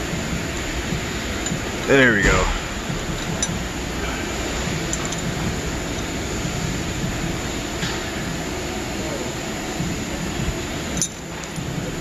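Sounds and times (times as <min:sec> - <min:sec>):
workshop rushing noise: 0:00.0 - 0:10.9.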